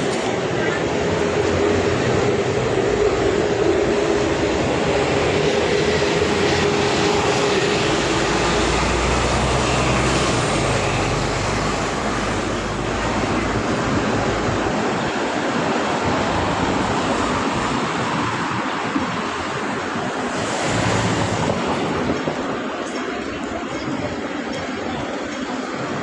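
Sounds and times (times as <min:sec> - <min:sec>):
vehicles rumbling past: 0:00.0 - 0:17.8, 0:19.2 - 0:25.3.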